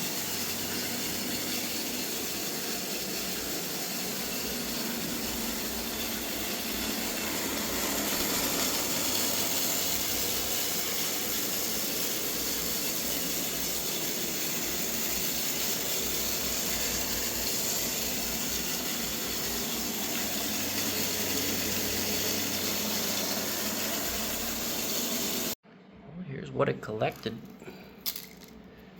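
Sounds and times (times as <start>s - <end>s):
robot vacuum running: 0.0s - 25.6s.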